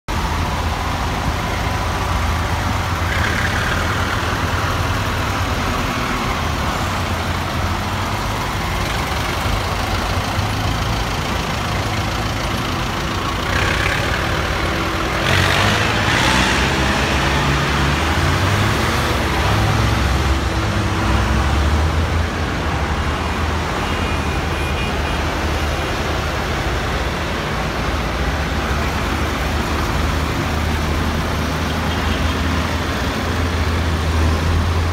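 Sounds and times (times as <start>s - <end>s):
tractor diesel engines rumbling: 0.1s - 34.9s.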